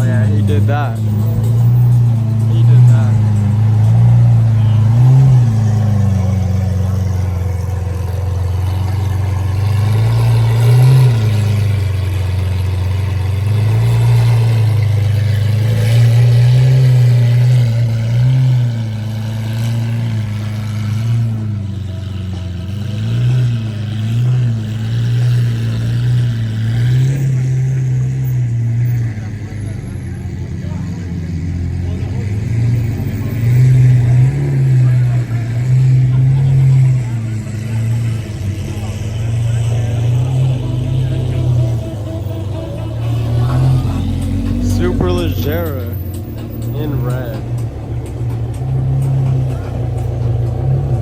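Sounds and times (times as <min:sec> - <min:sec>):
car engine running: 0:00.0 - 0:51.0.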